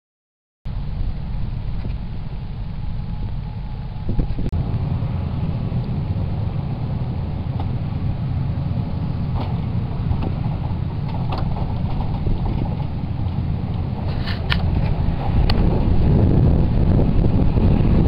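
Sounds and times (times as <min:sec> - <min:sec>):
engine idling: 0:00.7 - 0:18.0.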